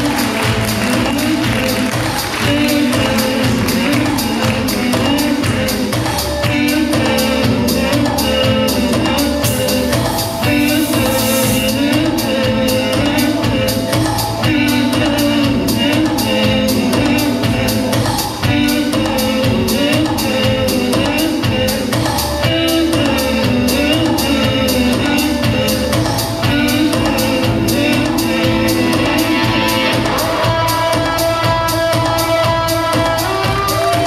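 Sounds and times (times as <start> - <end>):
dance music with singing: 0.0 - 34.0.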